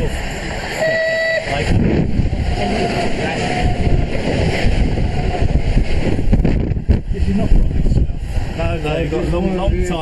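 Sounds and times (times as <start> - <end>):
passing train roar and rumble: 0.0 - 10.0
wind buffeting microphone: 0.0 - 10.0.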